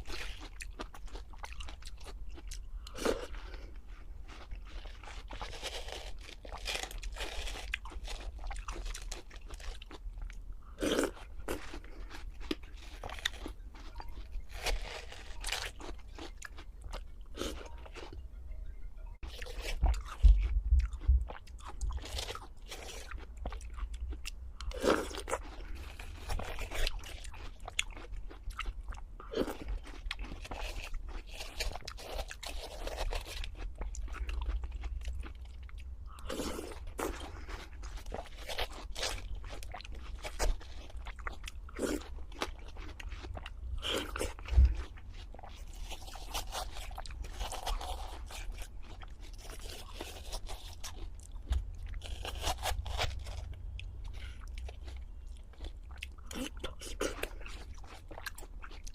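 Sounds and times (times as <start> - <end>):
crunchy biting and chewing: 0.0 - 18.2, 19.2 - 58.9.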